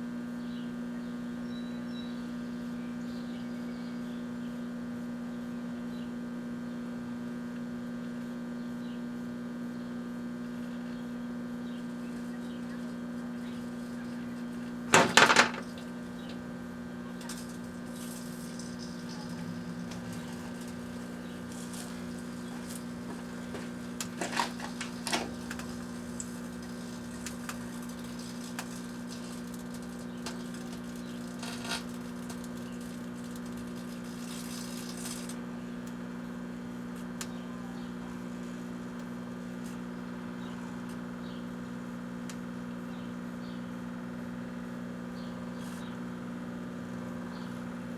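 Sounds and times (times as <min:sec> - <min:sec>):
microwave oven humming: 0:00.0 - 0:47.9.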